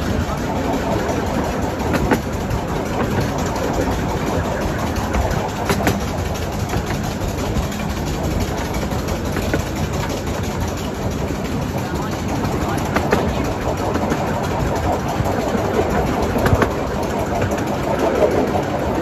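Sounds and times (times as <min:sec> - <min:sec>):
sharp track clicks: 0:00.0 - 0:19.0
wheels rumbling on rails: 0:00.0 - 0:19.0.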